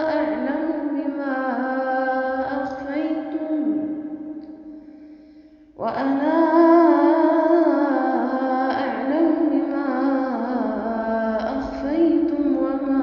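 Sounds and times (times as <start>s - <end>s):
woman chanting melodically: 0.0s - 4.6s, 5.8s - 13.0s.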